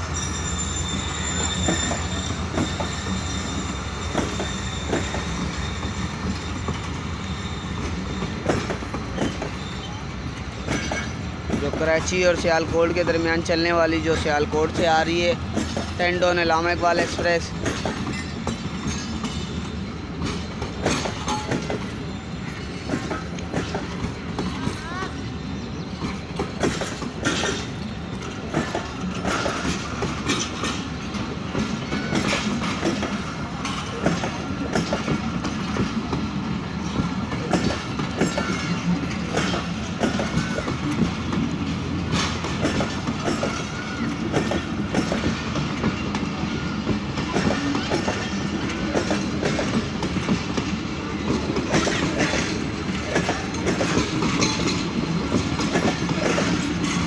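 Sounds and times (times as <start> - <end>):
train rumble: 0.0 - 57.0
train wheels clacking on rails: 0.0 - 57.0.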